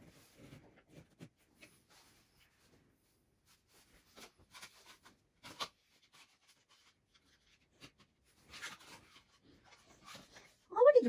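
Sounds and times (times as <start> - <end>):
faint rustling and handling: 0.0 - 11.0.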